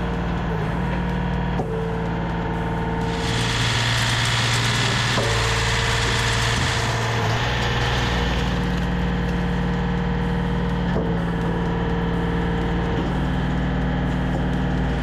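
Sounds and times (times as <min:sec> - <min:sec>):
engine and hydraulic pump droning: 0:00.0 - 0:15.0.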